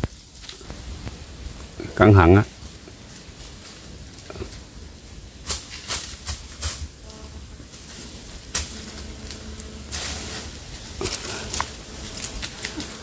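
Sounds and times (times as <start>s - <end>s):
branches and leaves rustling: 0.0s - 13.0s
sharp branch crackles: 0.0s - 13.0s.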